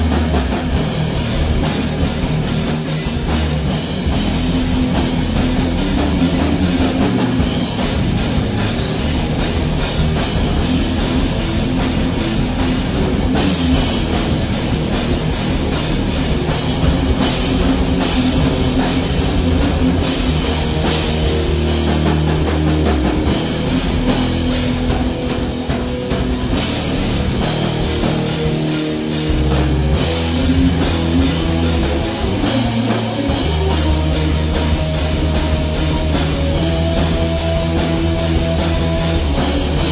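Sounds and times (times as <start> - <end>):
rock guitar and drums jamming: 0.0 - 39.9.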